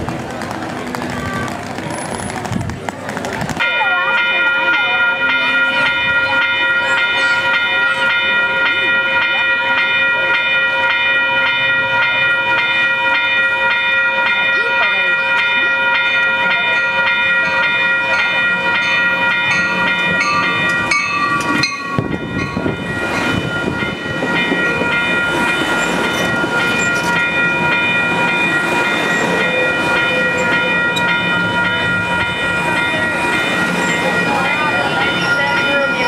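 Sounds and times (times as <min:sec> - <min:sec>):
train wheels rumbling on rails: 0:00.0 - 0:36.0
railroad crossing bell ringing: 0:03.6 - 0:36.0.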